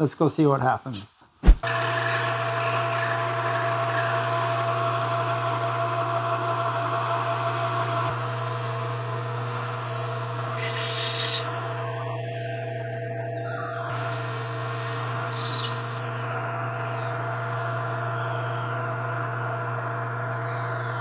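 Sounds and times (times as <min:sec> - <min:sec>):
lathe machine hum: 0:01.6 - 0:21.0
lathe tool cutting metal: 0:01.6 - 0:21.0.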